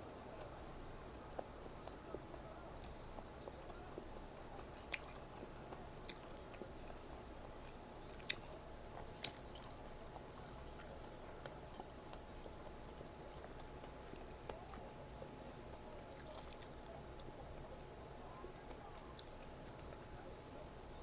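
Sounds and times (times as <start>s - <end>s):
person chewing food: 0.4s - 17.4s.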